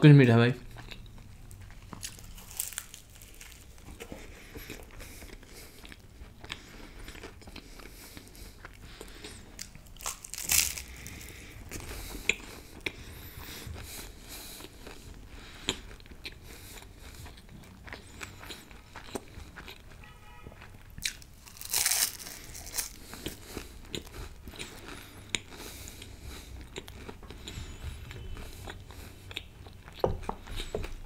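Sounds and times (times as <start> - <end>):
chewing crisp pastry: 0.5 - 31.0.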